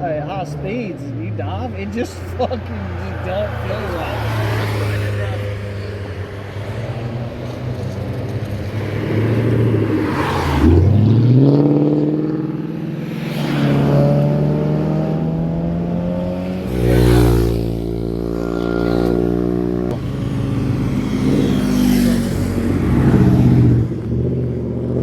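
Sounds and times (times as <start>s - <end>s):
cars passing and revving: 0.0s - 25.0s.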